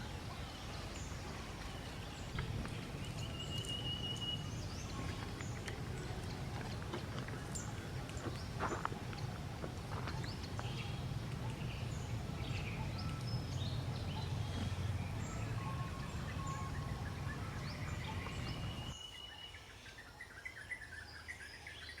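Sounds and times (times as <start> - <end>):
low steady rumble: 0.0 - 19.0
birds chirping and calling: 0.6 - 19.0.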